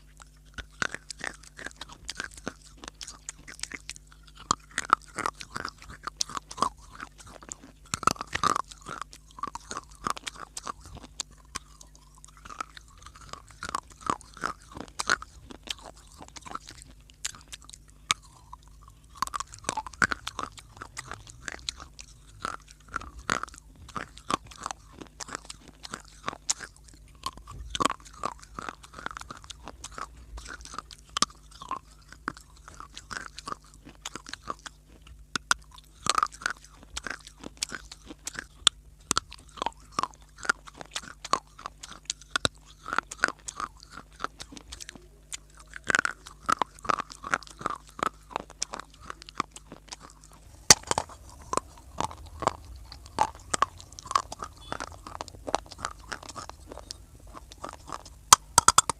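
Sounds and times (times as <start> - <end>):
crunching and chewing clay: 0.0 - 58.9.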